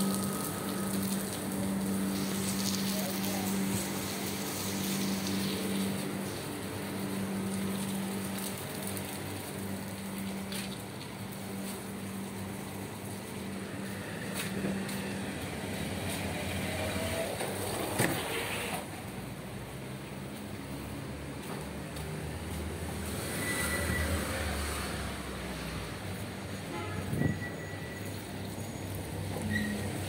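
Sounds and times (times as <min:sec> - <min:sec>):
rain and tyres hissing on wet road: 0:00.0 - 0:30.0
vehicle engine hum: 0:00.0 - 0:30.0.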